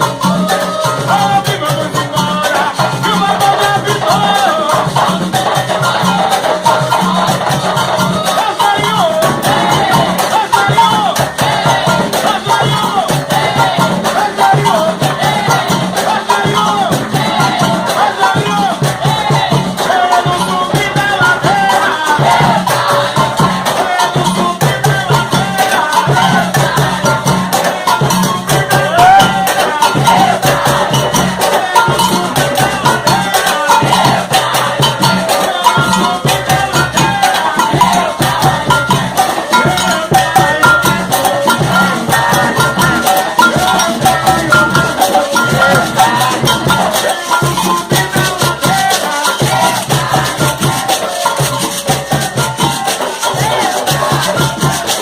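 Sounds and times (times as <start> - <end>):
shakers and drums rhythm: 0.0 - 55.0
voices singing: 0.0 - 55.0.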